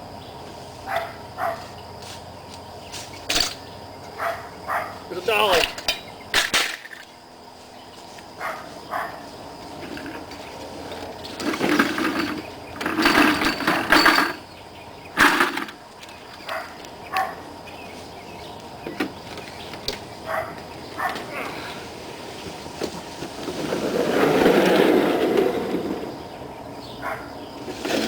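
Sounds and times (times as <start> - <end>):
junk rustling and scraping: 0.6 - 26.4, 27.0 - 28.0.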